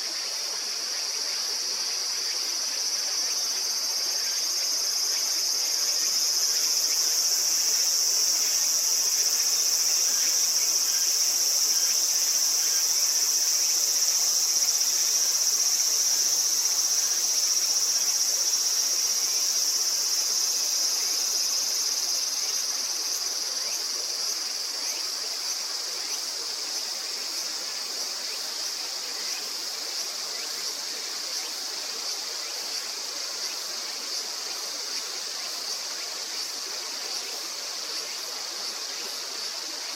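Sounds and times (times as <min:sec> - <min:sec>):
insects calling: 0:00.0 - 0:39.9.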